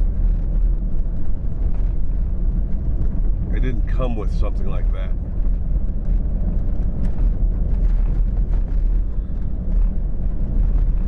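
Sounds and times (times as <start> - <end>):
road and engine rumble: 0.0 - 11.0
wind noise: 0.0 - 11.0.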